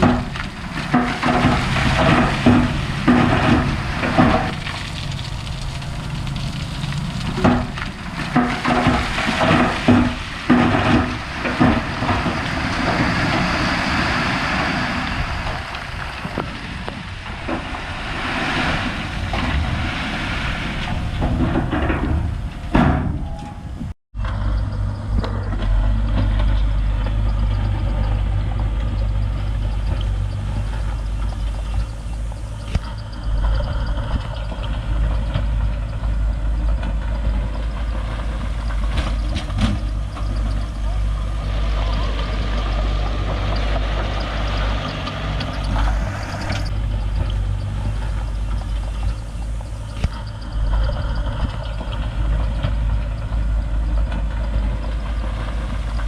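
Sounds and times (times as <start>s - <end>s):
diesel engine running: 0.0s - 56.0s
earthmoving machinery knocking and scraping: 0.0s - 56.0s.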